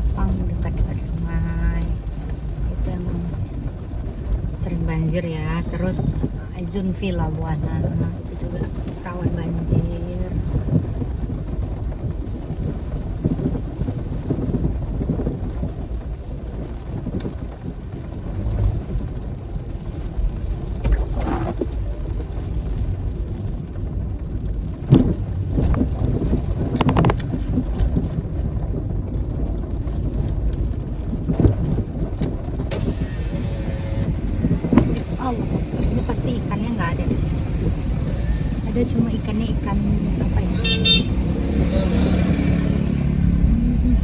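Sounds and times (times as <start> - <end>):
heavy rain: 0.0 - 44.0
vehicle rumbling: 0.0 - 44.0
wind buffeting microphone: 0.0 - 44.0.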